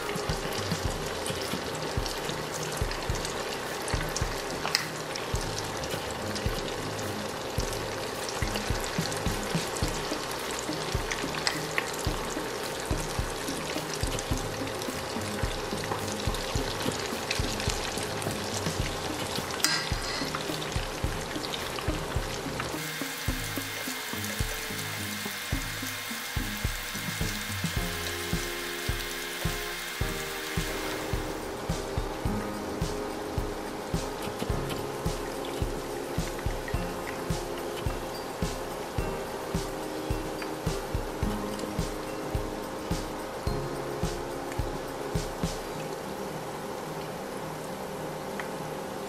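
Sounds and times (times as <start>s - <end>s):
batter sizzling in hot oil: 0.0s - 46.0s
background music with steady beat: 0.0s - 48.8s.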